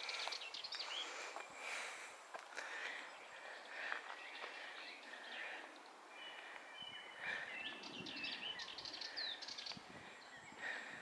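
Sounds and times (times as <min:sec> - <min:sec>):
songbirds whistling and chirping: 0:00.0 - 0:01.9, 0:02.9 - 0:11.0.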